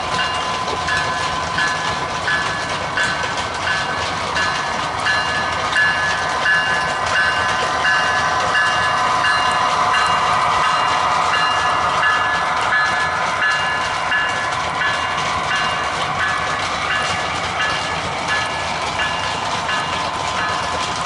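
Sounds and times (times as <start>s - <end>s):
train running: 0.0s - 21.0s
warning bell ringing: 0.2s - 20.8s.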